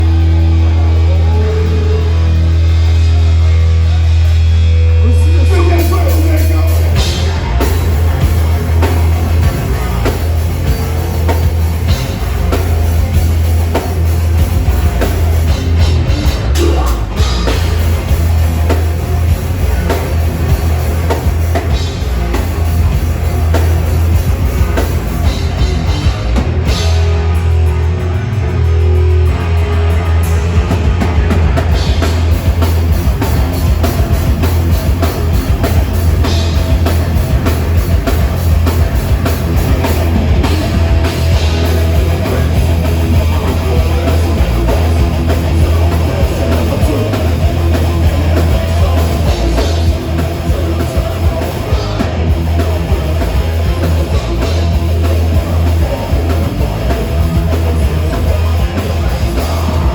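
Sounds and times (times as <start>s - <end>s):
heavy metal band playing: 0.0s - 59.9s.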